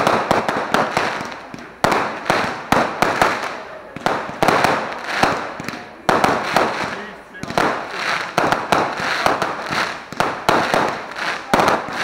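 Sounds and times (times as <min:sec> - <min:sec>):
crackling hiss of fireworks: 0:00.0 - 0:12.0
firework shells bursting: 0:00.0 - 0:12.0.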